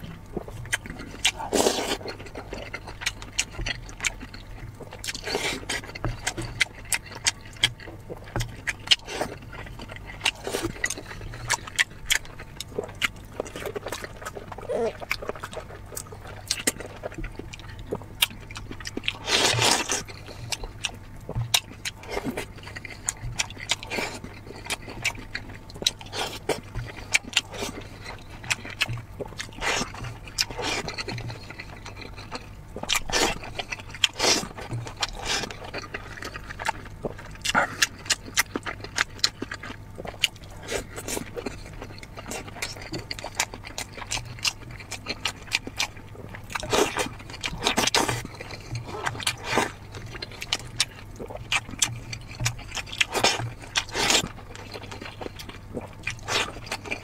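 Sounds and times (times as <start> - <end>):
man chewing with wet mouth clicks: 0.0 - 57.0
steady low hum: 0.0 - 57.0.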